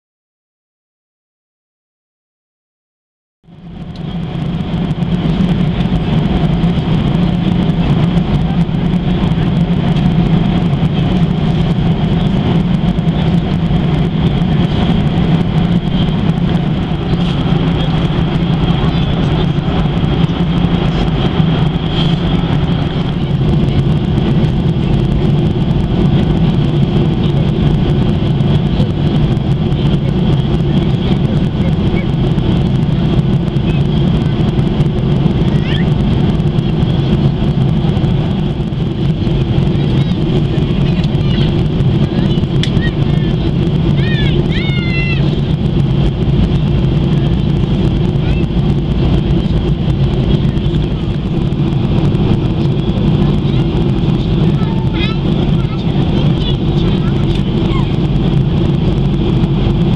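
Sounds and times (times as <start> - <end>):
air rushing along fuselage: 3.4 - 59.9
jet engines humming: 3.4 - 59.9
steady high whine: 3.4 - 59.9.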